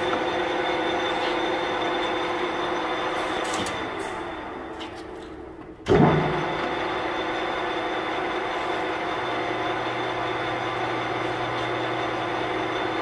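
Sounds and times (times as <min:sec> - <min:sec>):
lathe running with mechanical hum: 0:00.0 - 0:13.0.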